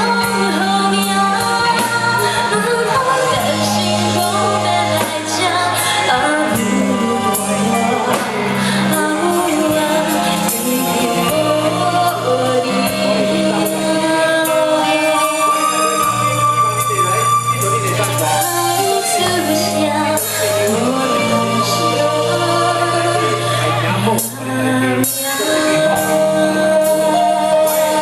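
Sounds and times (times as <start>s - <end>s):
live band playing pop ballad: 0.0s - 28.0s
person singing: 0.0s - 28.0s.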